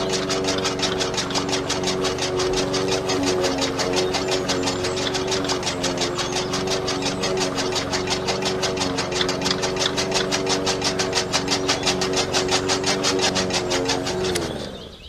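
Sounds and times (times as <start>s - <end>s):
rapid even ticking: 0.0s - 15.0s
small electric motor running: 0.0s - 15.0s.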